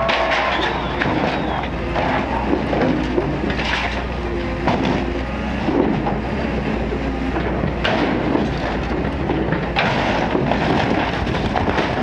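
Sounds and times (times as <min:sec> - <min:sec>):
excavator diesel engine under load: 0:00.0 - 0:12.0.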